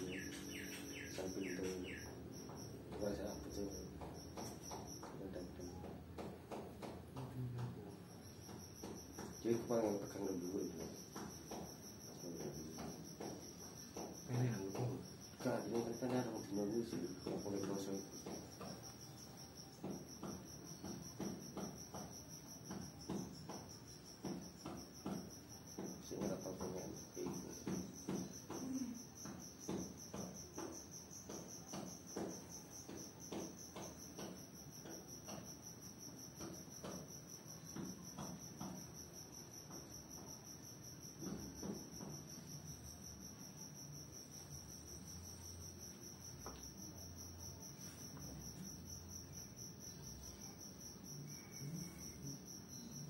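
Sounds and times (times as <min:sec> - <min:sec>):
cricket chirring: 0:00.0 - 0:53.0.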